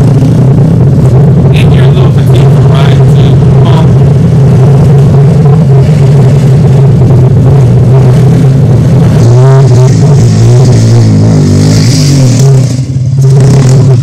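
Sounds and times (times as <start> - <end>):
quad engine revving: 0.0 - 14.0
quad engines running: 0.0 - 14.0.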